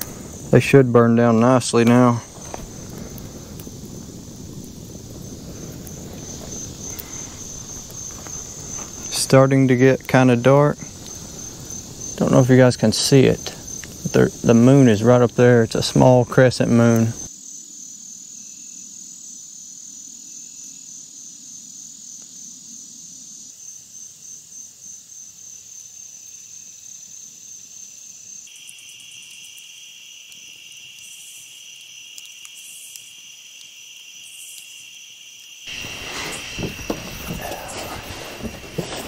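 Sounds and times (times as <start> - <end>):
insects chirping high trill: 0.0 - 39.0
lower-pitched insect trill: 0.0 - 39.0.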